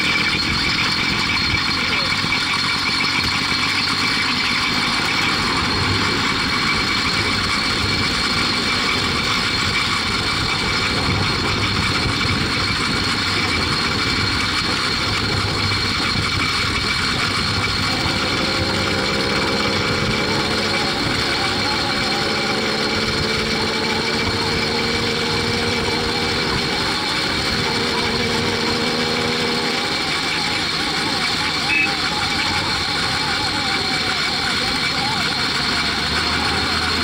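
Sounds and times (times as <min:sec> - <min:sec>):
two-stroke bicycle engine running: 0:00.0 - 0:37.0.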